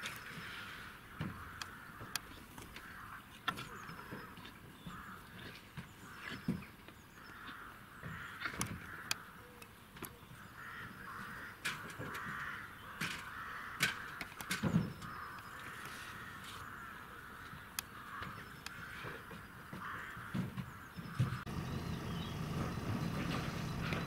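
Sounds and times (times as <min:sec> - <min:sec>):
birds cawing: 0:00.1 - 0:24.0.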